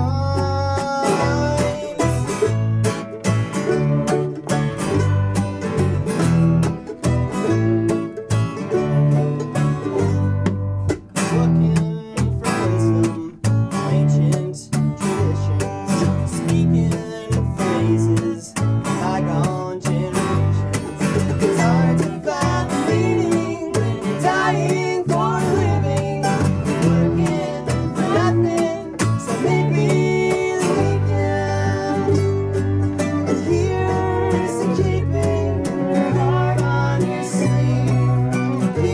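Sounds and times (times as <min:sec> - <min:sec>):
person singing: 0:00.0 - 0:02.6, 0:07.2 - 0:08.2, 0:11.2 - 0:38.9
bass guitar: 0:00.0 - 0:38.9
cello: 0:00.0 - 0:38.9
mandolin strumming: 0:00.0 - 0:38.9.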